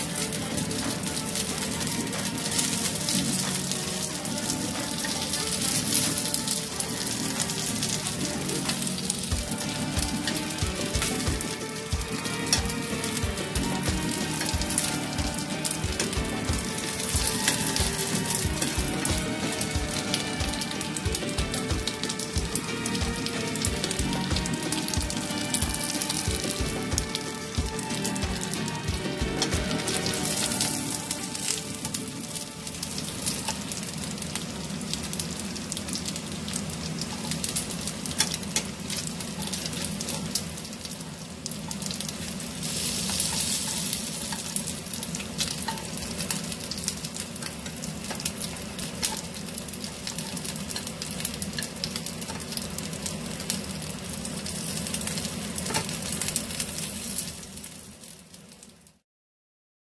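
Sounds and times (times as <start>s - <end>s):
metal tongs turning food: 0.0s - 34.1s, 37.0s - 40.6s, 41.6s - 52.6s, 55.6s - 56.4s
dumplings sizzling in oil: 0.0s - 59.0s.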